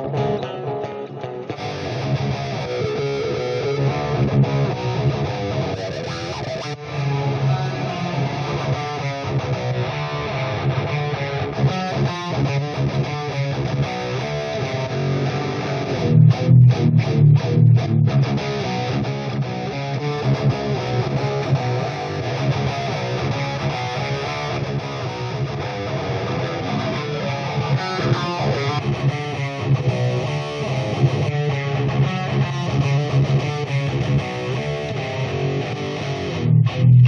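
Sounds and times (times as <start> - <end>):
electric guitar riff: 0.0 - 37.0
short stopped guitar chords: 0.0 - 37.0.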